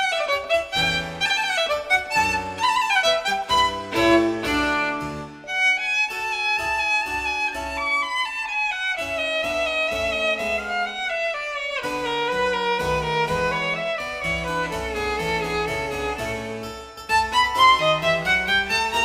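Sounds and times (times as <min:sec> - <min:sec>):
violin melody over a beat: 0:00.0 - 0:19.0.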